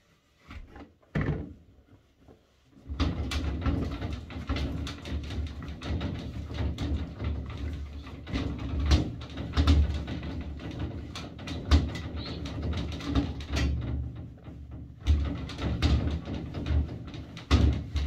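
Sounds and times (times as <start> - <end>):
glass panels rattling in frame: 2.9 - 18.0.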